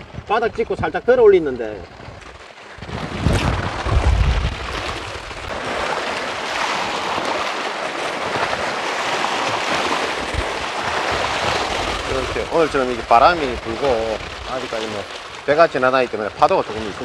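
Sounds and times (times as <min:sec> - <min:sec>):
wind buffeting microphone: 0:00.0 - 0:07.5, 0:08.3 - 0:17.0
small waves washing ashore: 0:00.0 - 0:17.0.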